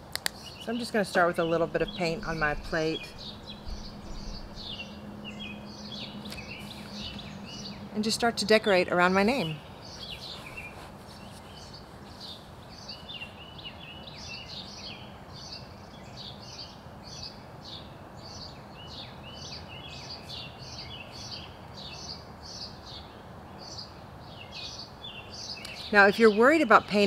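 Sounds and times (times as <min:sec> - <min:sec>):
birds chirping: 0:00.0 - 0:27.0
steady background hiss: 0:00.0 - 0:27.0.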